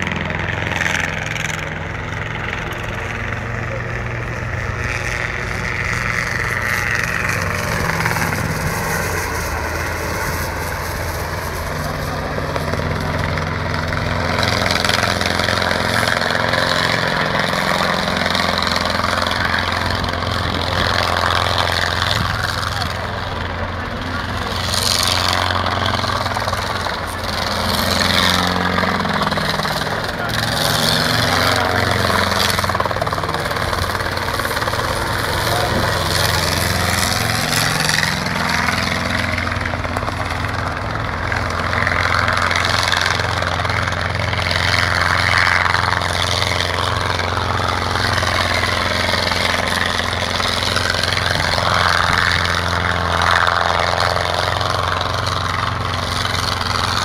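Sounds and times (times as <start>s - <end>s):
model helicopter engine whine: 0.0s - 57.0s.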